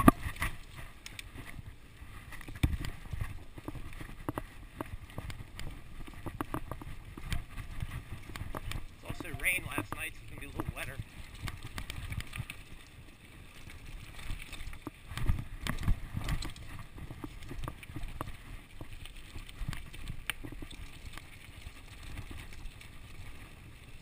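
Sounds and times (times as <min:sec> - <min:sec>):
bike clicks and rattles: 0:00.0 - 0:24.0.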